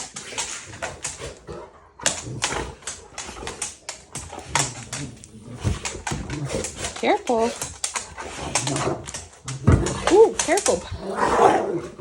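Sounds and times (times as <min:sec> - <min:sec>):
dog claws scrabbling on floor: 0:00.0 - 0:11.1.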